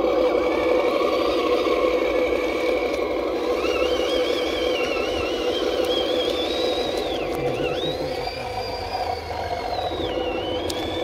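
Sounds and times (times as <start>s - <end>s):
high wavering whine: 0.0s - 11.0s
toy truck electric motor whining: 0.0s - 11.0s.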